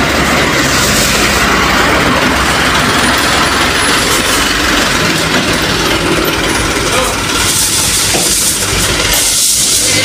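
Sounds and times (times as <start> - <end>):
road and tyre noise: 0.0 - 10.0
truck engine rumble: 0.0 - 10.0.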